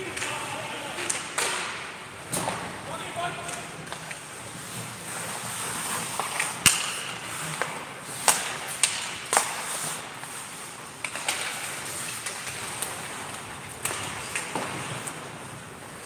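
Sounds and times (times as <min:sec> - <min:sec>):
hockey sticks clacking on puck: 0:00.0 - 0:16.0.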